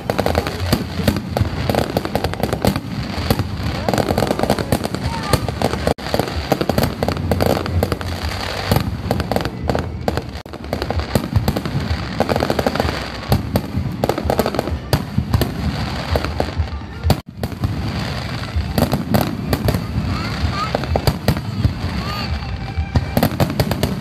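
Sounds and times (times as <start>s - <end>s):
fireworks bursting and crackling: 0.0s - 24.0s
music: 0.0s - 24.0s.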